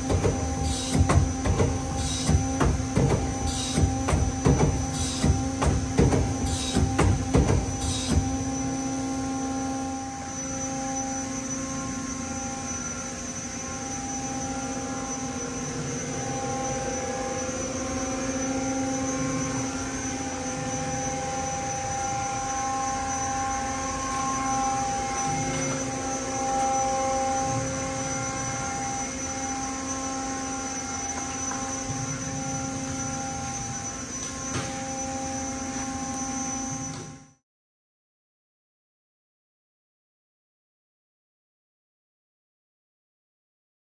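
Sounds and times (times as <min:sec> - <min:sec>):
lathe humming: 0:00.0 - 0:36.5.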